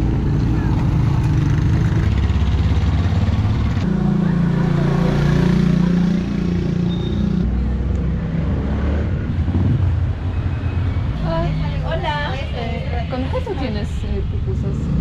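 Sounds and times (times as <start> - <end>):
street traffic engines humming: 0.0 - 15.0.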